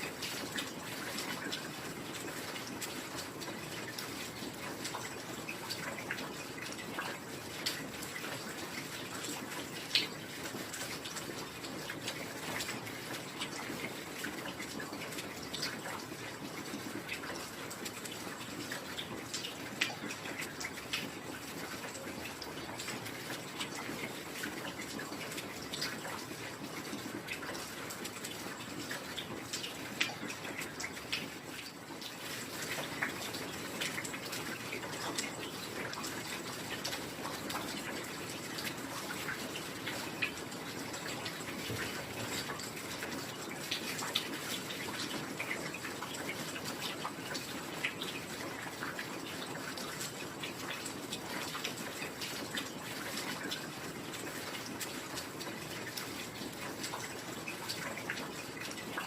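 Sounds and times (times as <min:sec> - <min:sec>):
heavy rain: 0:00.0 - 0:59.0
raindrops ticking nearby: 0:00.0 - 0:59.0.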